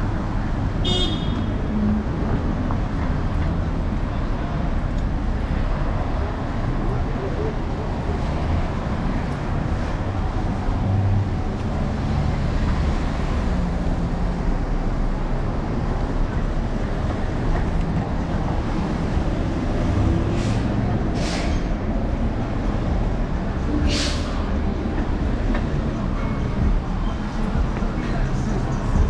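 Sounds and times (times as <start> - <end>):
passing vehicles: 0.0 - 29.0.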